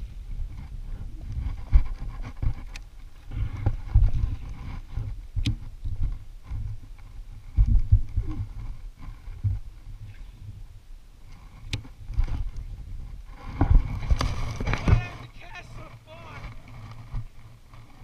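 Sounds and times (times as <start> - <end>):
low thumps and rumble: 0.0 - 10.7, 11.4 - 15.2.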